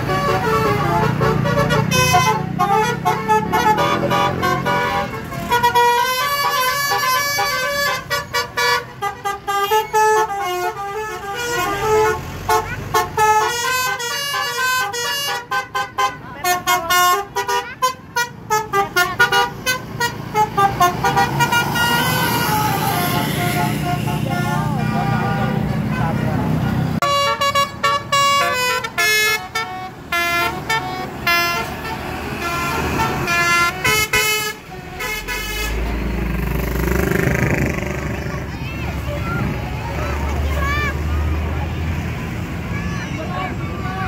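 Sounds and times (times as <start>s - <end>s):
bus engine rumble: 0.0s - 44.0s
musical bus horns: 0.0s - 44.0s.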